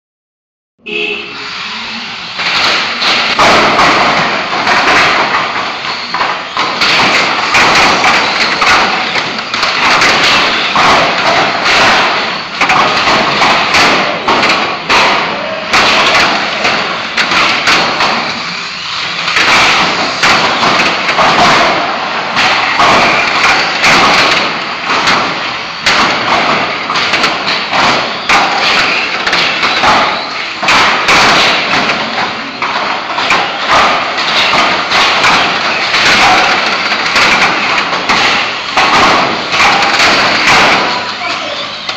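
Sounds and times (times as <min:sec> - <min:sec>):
cars knocking and banging: 0:00.9 - 0:41.9.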